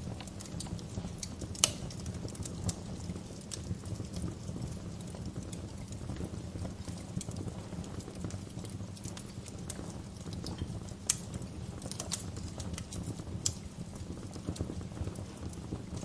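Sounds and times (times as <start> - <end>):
sharp fire pops: 0.0 - 16.0
wood fire crackling: 0.0 - 16.0.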